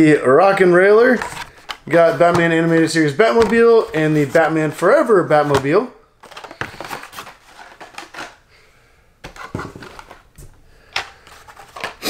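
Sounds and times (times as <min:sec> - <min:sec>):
plastic and cardboard packaging rustling: 0:00.5 - 0:08.5, 0:09.2 - 0:12.0.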